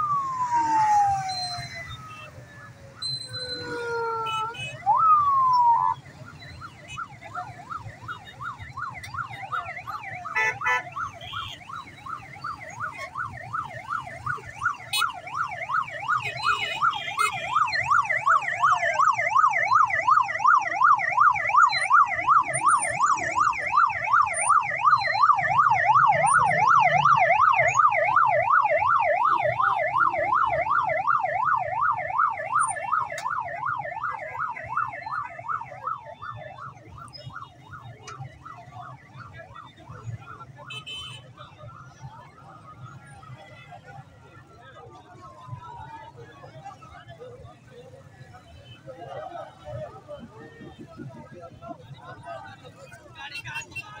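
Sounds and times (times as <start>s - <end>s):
emergency vehicle siren: 0.0s - 54.0s.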